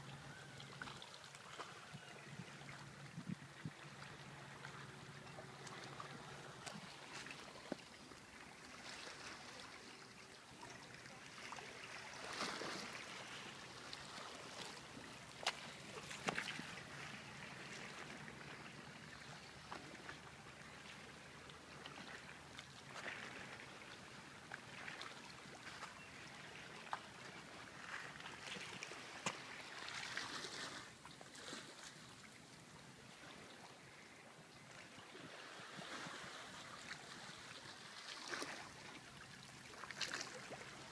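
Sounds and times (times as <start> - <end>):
waves lapping on rocks: 0.0 - 32.3, 34.7 - 40.9.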